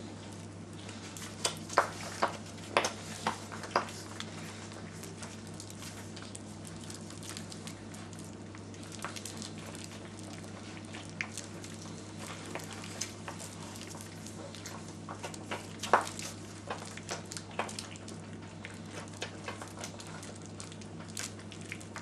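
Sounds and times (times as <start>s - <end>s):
soft crackle: 0.0s - 22.0s
steady low hum: 0.0s - 22.0s.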